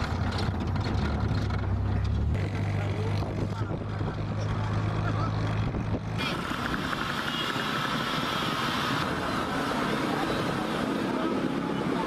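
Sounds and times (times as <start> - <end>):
busy street traffic: 0.0 - 12.0
car engine drone: 0.0 - 12.0.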